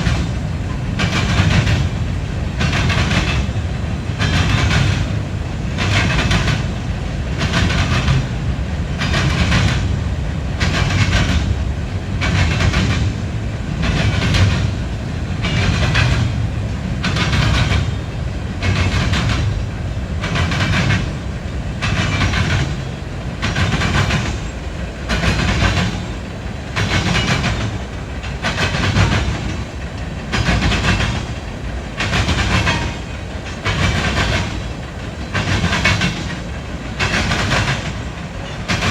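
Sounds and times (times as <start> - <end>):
low train rumble: 0.0 - 38.9
train wheels clacking: 0.0 - 38.9.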